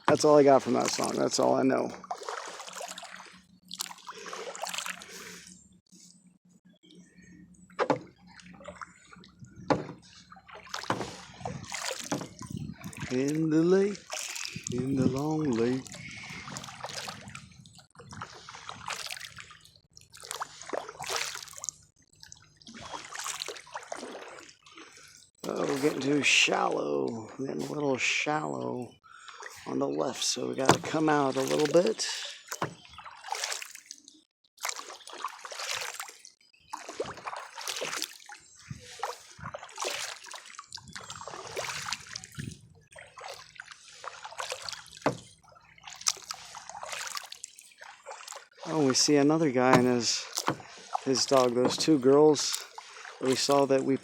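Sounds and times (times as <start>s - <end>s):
paddle dipping into water: 0.0s - 6.1s, 7.7s - 28.4s, 29.1s - 54.0s
water splashing and trickling: 0.0s - 54.0s.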